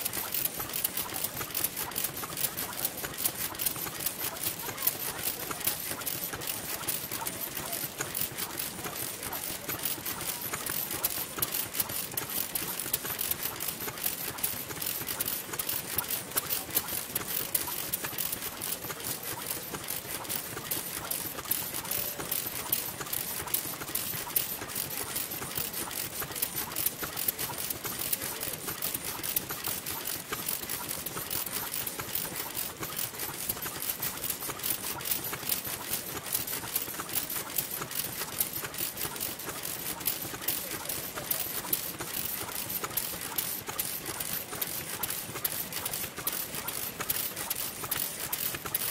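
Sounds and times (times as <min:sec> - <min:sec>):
stationary engine clattering: 0:00.0 - 0:48.9.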